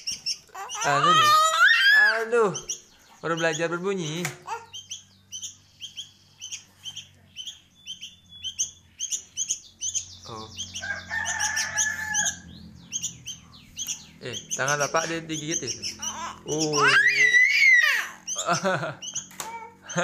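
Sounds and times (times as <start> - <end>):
lower-pitched bird call: 0.0 - 3.8, 4.4 - 20.0
young bird chirping: 0.0 - 20.0.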